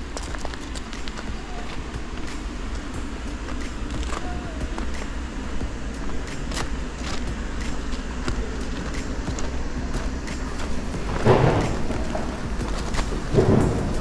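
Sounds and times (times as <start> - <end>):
footsteps crunching on gravel: 0.0 - 14.0
steady low rumble: 0.0 - 14.0.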